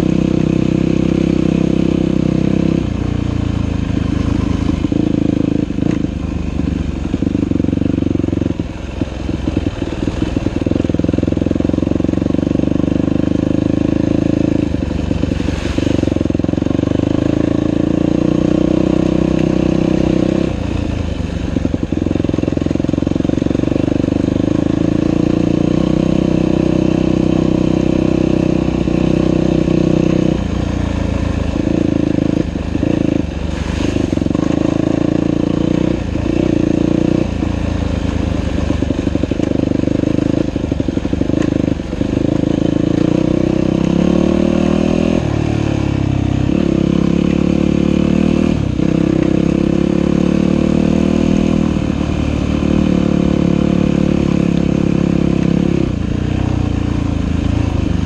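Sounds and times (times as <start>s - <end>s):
dirt bike engine revving: 0.0s - 8.6s, 10.1s - 20.9s, 21.6s - 58.0s.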